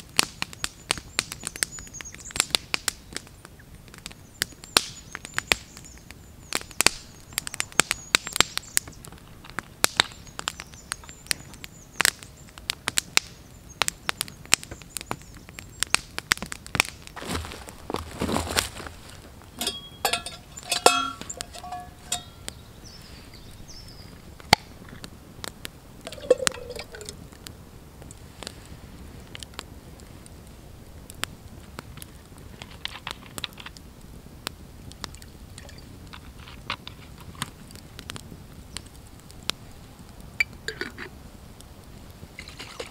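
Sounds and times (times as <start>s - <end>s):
campfire crackling and popping: 0.0s - 42.9s
rustle: 0.0s - 42.9s.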